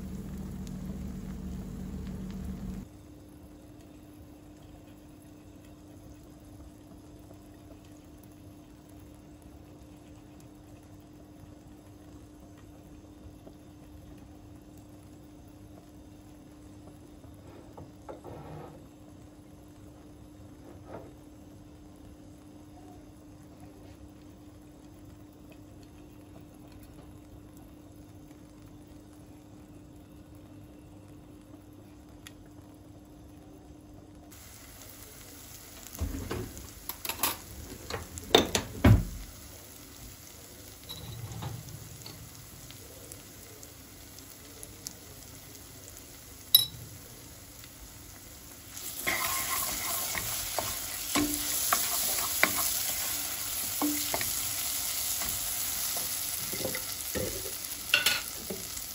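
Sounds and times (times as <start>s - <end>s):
food sizzling in a pan: 0.0s - 58.9s
low steady hum: 0.0s - 58.9s.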